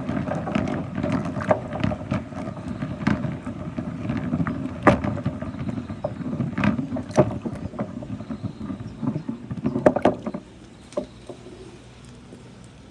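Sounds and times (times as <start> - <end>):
marbles rolling rumble: 0.0 - 12.5.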